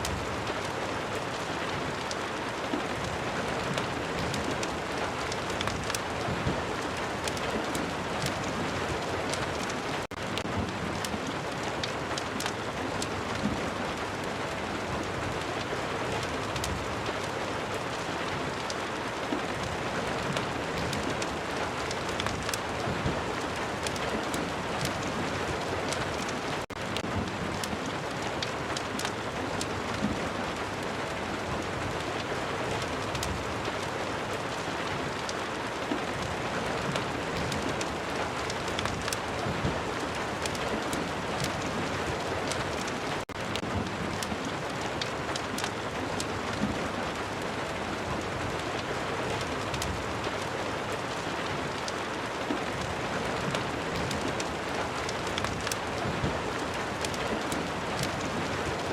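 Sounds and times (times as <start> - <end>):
fireplace crackling: 0.0 - 14.4, 19.6 - 31.1, 32.0 - 58.9
steady rain hiss: 0.0 - 58.9.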